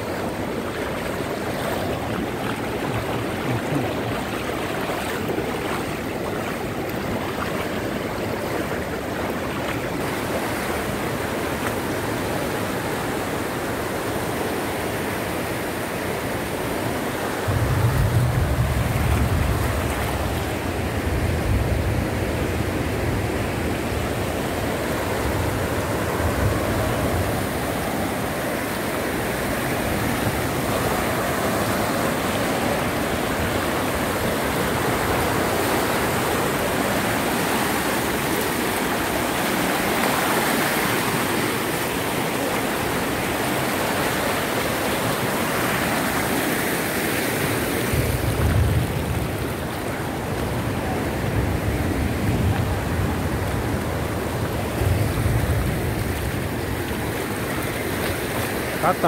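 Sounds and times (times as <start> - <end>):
floodwater rushing and splashing: 0.0 - 59.0.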